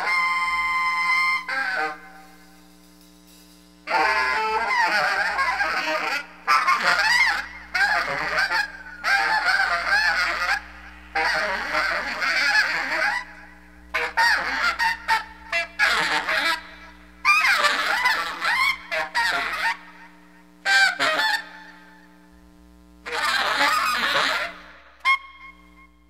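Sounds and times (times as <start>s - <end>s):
free jazz saxophone: 0.0s - 2.7s, 3.8s - 22.1s, 23.0s - 26.0s.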